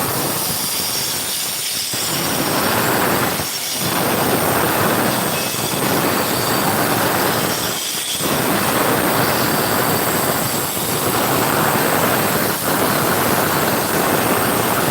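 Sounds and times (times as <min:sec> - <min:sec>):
concrete saw cutting concrete: 0:00.0 - 0:14.9.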